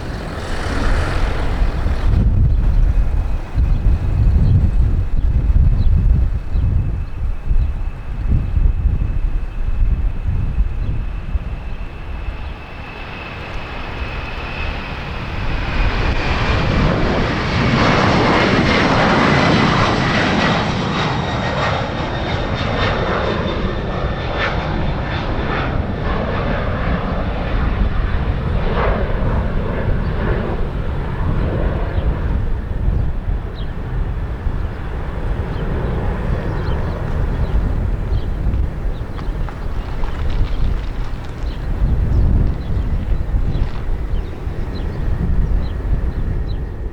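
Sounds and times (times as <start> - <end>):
jet engines roaring past: 0.0 - 46.9
wind buffeting microphone: 0.0 - 46.9.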